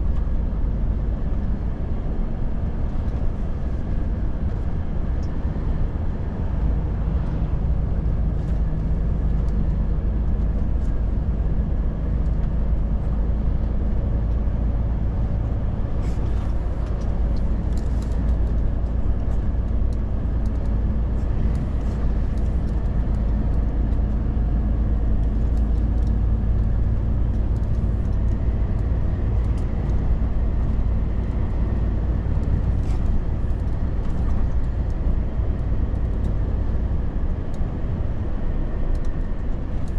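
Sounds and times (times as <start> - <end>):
truck driving on road: 0.0 - 39.9.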